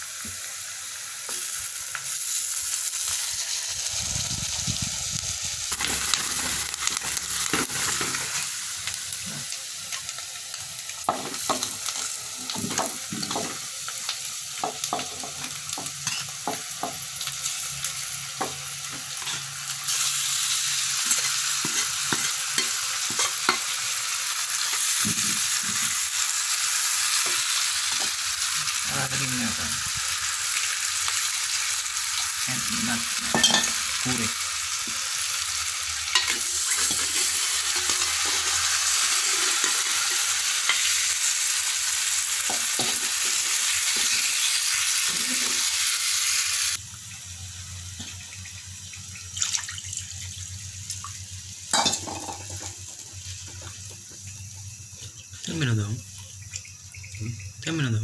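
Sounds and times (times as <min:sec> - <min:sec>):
food sizzling in clay pot: 0:00.0 - 0:58.0.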